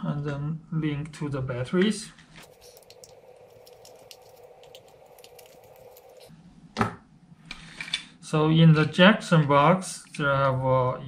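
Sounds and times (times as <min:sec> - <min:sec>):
faint steady hum: 0:00.4 - 0:11.0.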